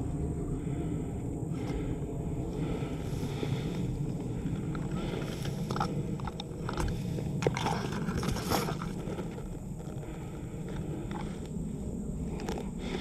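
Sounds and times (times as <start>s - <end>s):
low wind rumble on microphone: 0.0s - 13.0s
dry grass and reeds rustling: 1.5s - 13.0s.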